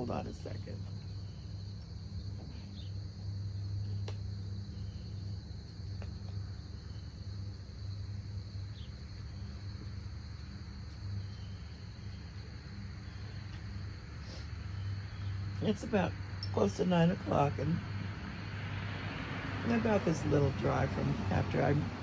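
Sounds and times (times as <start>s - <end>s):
insects chirring: 0.0s - 22.0s
low steady hum: 0.0s - 22.0s.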